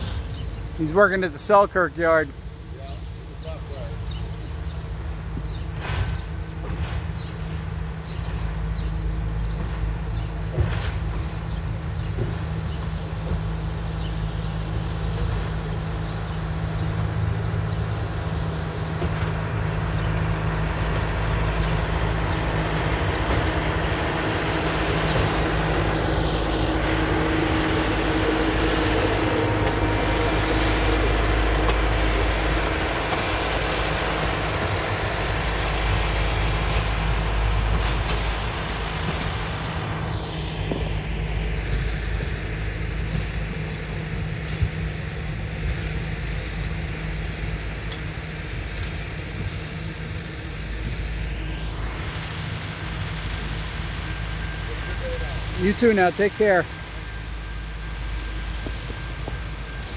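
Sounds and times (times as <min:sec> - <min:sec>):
rail machine engine passing: 0:00.0 - 0:59.9.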